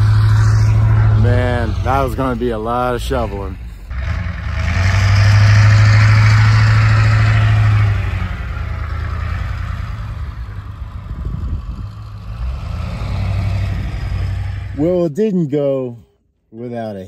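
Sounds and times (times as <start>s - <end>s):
truck engine pushing snow: 0.0s - 15.0s.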